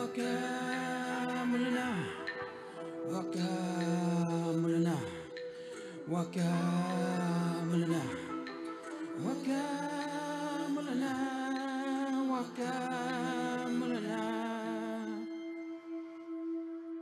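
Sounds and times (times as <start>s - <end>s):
man singing wordless held notes: 0.0s - 15.3s.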